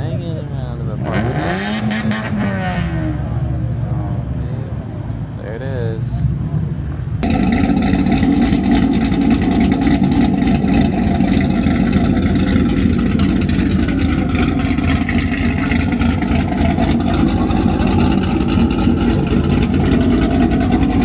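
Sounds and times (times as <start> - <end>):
car engine low drone: 0.0 - 21.0.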